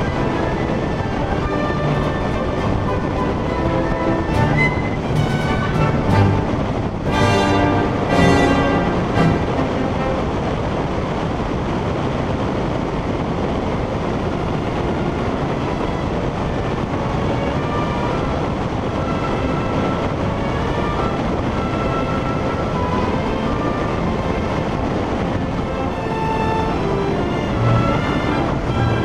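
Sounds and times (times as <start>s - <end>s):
wind rushing: 0.0s - 29.0s.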